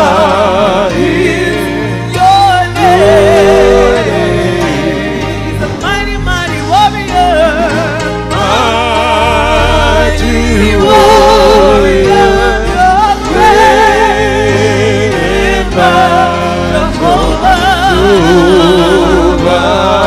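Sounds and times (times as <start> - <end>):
deep bass accompaniment: 0.0 - 20.0.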